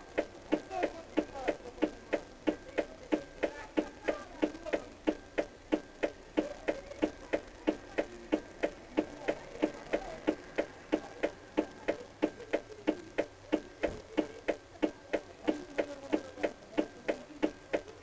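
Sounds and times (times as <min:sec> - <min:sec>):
steady ticking: 0:00.0 - 0:18.0.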